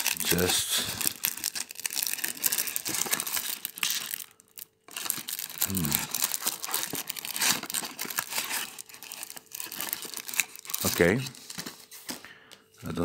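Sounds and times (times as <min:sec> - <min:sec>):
foil packs crinkling: 0:00.0 - 0:12.3.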